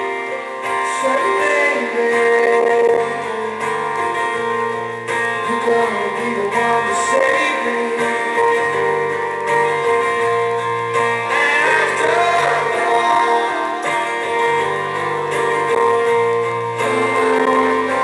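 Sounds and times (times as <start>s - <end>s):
band backing: 0.0s - 18.0s
strummed acoustic guitar: 0.0s - 18.0s.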